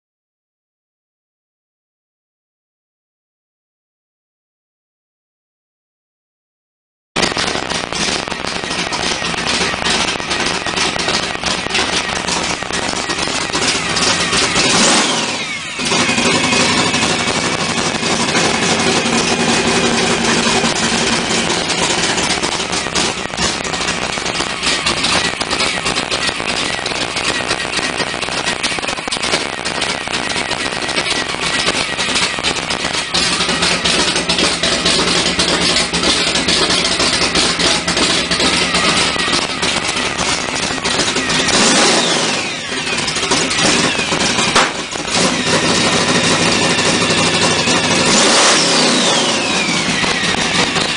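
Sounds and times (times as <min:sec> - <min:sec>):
car engine revving then idling: 0:07.2 - 0:50.9.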